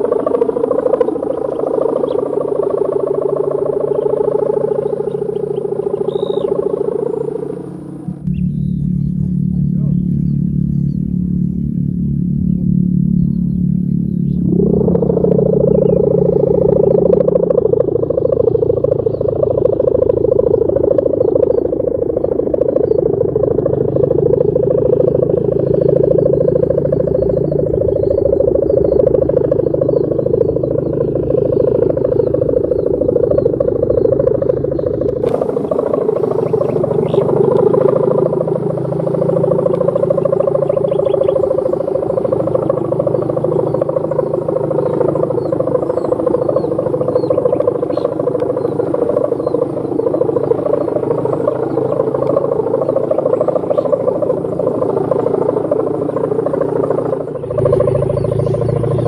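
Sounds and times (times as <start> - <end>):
faint insect chirps: 0.0 - 59.0
kite hummer droning: 0.0 - 59.0.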